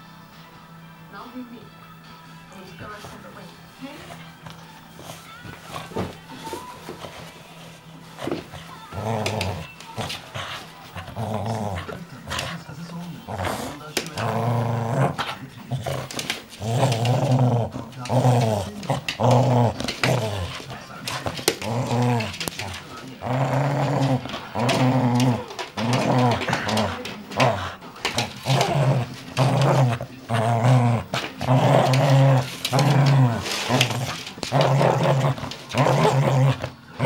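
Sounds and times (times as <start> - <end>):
dog growling in play: 4.0 - 37.0.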